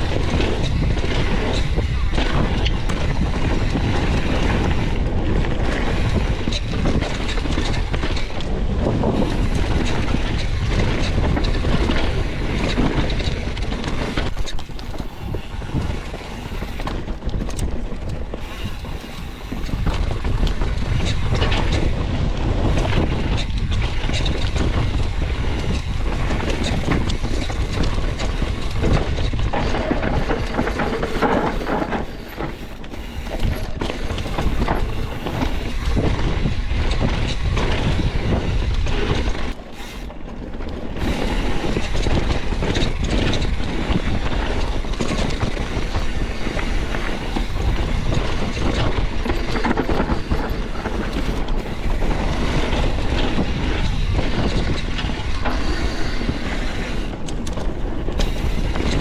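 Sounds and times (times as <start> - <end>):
skis scraping over snow: 0.0 - 59.0
wind buffeting microphone: 0.0 - 59.0.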